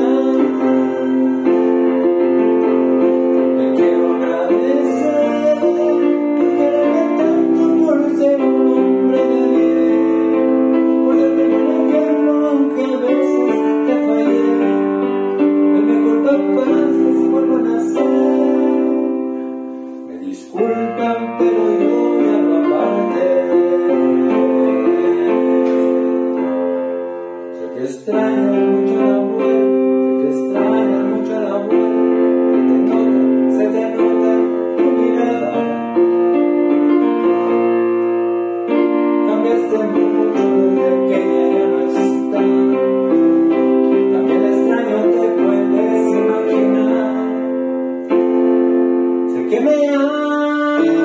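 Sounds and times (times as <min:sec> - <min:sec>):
electronic keyboard chords: 0:00.0 - 0:51.0.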